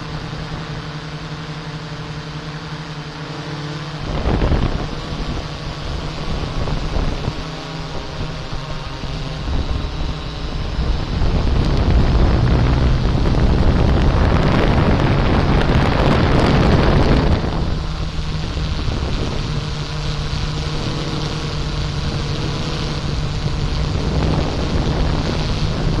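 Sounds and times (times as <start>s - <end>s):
drone propellers humming: 0.0s - 26.0s
wind rushing on microphone: 0.0s - 26.0s.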